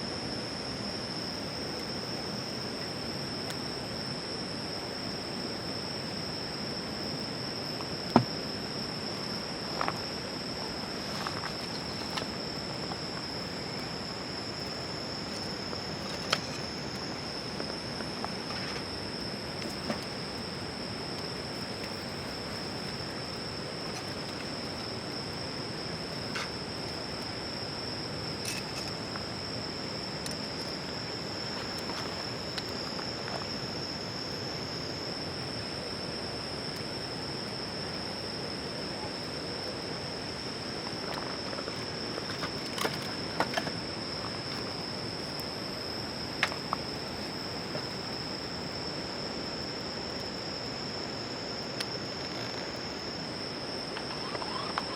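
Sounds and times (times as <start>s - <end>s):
constant hiss: 0.0s - 54.9s
insects singing: 0.0s - 54.9s.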